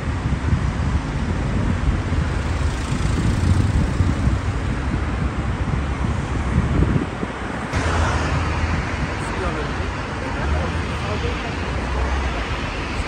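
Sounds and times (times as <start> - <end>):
road traffic noise: 0.0 - 13.0
wind buffeting microphone: 0.0 - 13.0.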